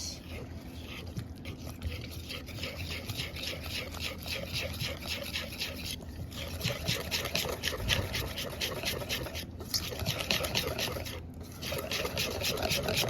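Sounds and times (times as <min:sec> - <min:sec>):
batter stirred in a bowl: 0:00.0 - 0:13.0.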